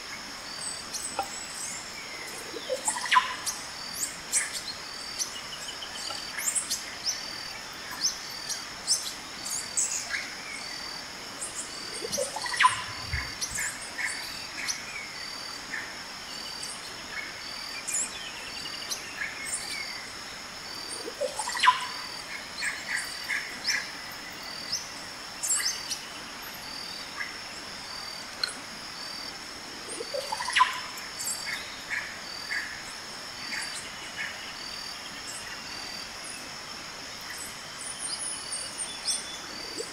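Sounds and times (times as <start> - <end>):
birds calling and chirping: 0.2 - 36.5, 37.3 - 39.9
pulsing insect trill: 0.3 - 39.9.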